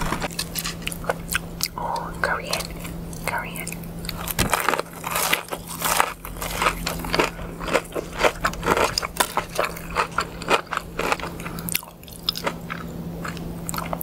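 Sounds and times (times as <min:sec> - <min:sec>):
crunchy chewing of fried food: 0:00.0 - 0:14.0
faint low hum: 0:00.0 - 0:14.0.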